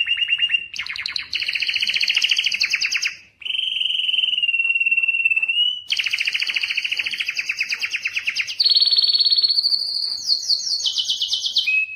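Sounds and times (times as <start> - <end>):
canary singing trills: 0.0 - 11.9.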